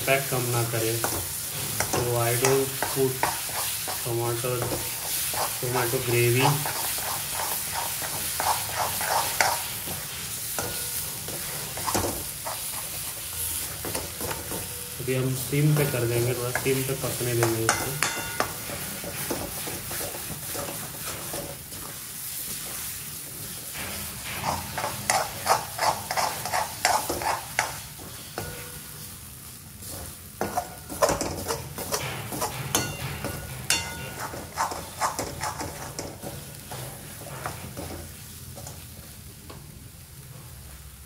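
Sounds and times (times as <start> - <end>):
masala sizzling in a pan: 0.0 - 41.0
utensil scraping and clinking pan: 0.8 - 21.7, 23.7 - 29.0, 29.8 - 38.0.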